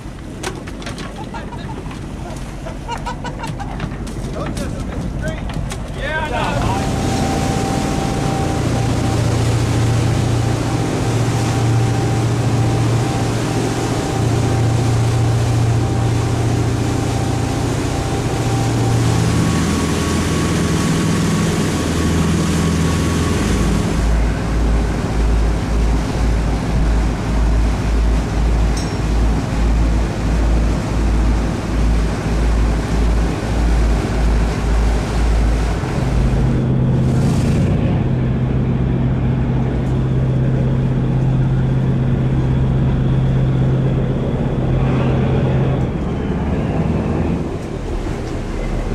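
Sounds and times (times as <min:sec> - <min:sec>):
low pulsing: 0:00.0 - 0:48.9
motorboat engine running: 0:00.0 - 0:48.9
water wash: 0:00.0 - 0:48.9
wind: 0:00.0 - 0:48.9.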